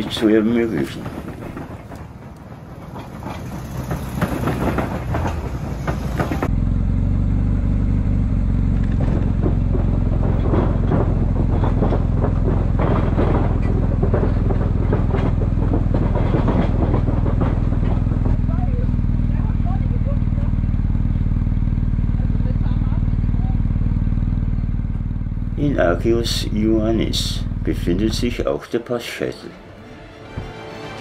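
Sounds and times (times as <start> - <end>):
low engine hum: 0.0 - 28.5
motorcycle engine rattling: 0.0 - 28.6.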